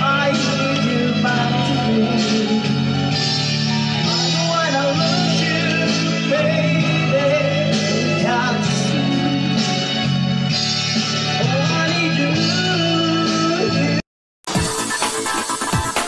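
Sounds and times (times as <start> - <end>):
person singing into a microphone: 0.0 - 10.1, 11.3 - 14.0
backing track with bass line: 0.0 - 16.0.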